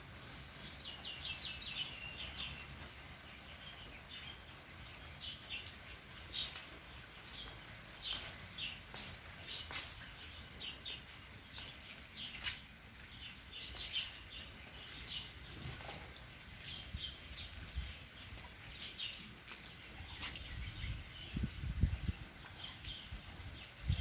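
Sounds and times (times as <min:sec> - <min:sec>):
birds chirping: 0:00.3 - 0:24.0.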